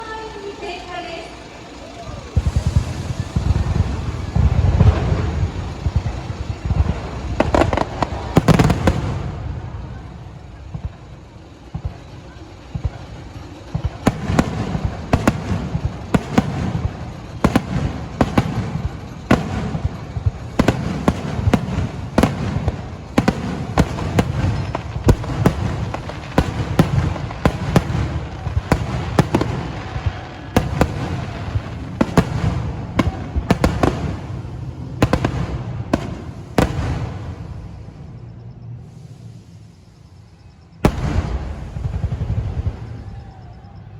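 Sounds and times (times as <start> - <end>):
fireworks bursting: 0.0 - 43.9
rolling rumble: 0.0 - 43.9.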